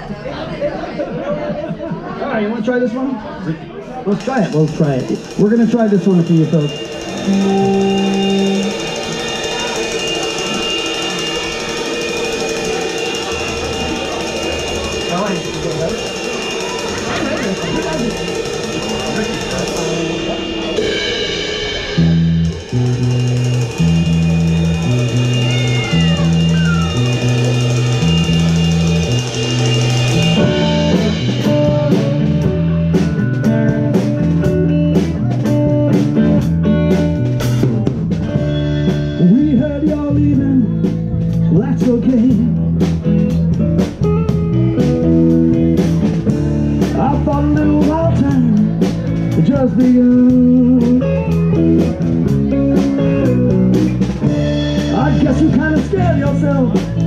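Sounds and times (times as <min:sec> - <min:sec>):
electric bass: 0:04.0 - 0:57.0
drum kit: 0:04.1 - 0:57.0
electric guitar: 0:04.1 - 0:57.0.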